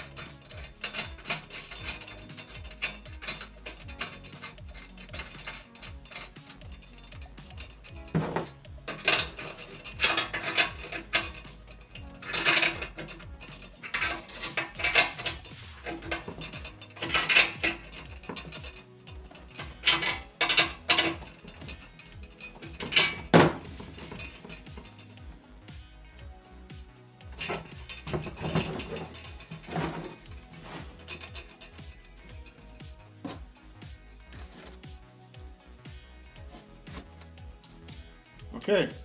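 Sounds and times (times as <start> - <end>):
ratchet wrench clicking: 0.0 - 38.5.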